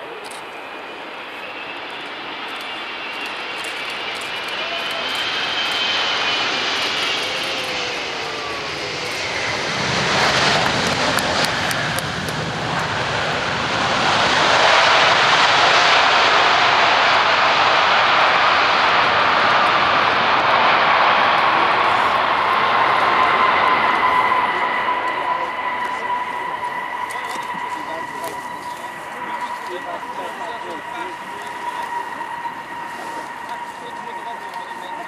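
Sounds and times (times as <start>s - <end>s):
airliner engine rush on runway: 0.0s - 35.0s
jet engines whining: 0.0s - 35.0s.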